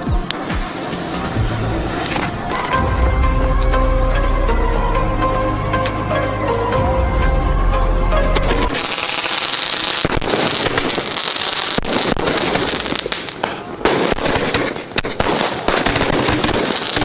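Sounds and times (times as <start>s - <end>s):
firecrackers popping: 0.0s - 6.0s, 8.3s - 17.0s.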